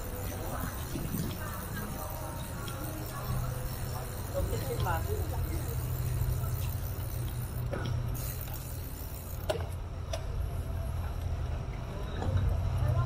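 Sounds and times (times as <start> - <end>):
wind and riding noise: 0.0 - 13.0.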